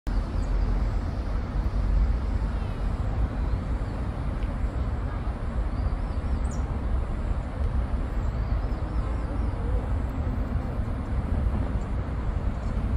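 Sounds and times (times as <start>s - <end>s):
low outdoor rumble: 0.1s - 12.9s.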